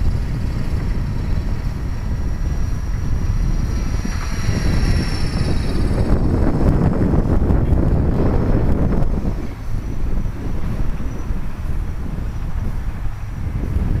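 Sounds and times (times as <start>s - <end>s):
high thin motor whine: 0.0s - 14.0s
wind buffeting microphone: 0.0s - 14.0s.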